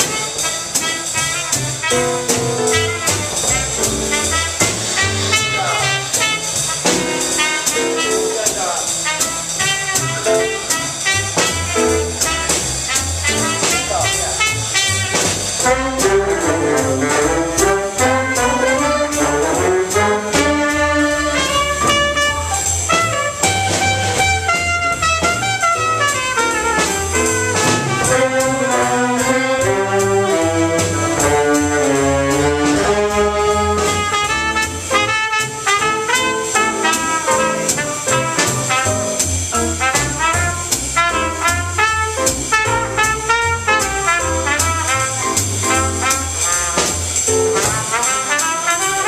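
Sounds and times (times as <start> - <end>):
big band playing swing jazz: 0.0 - 49.0.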